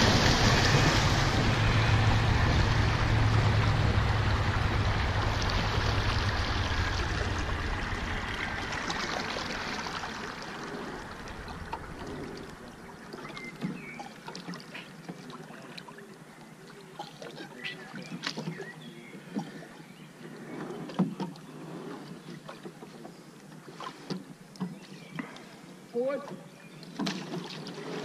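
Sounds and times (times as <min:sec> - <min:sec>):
light water splashes: 0:00.0 - 0:28.0
water rushing along boat: 0:00.0 - 0:28.0.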